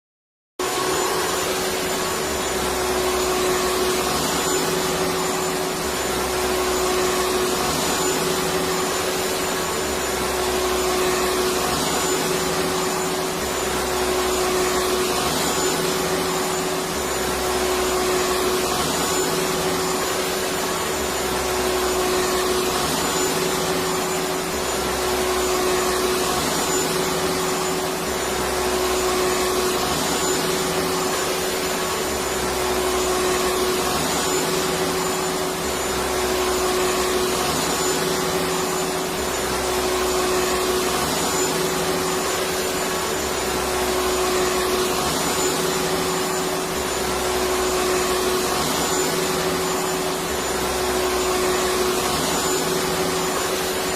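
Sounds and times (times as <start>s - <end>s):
vacuum cleaner running: 0.6s - 53.9s.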